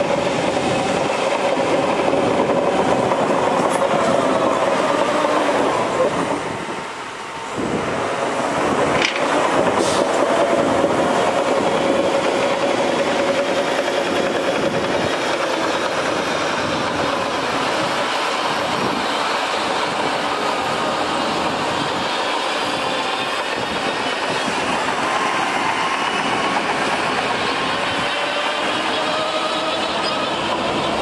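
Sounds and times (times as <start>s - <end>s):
truck engine and hydraulics: 0.0s - 31.0s.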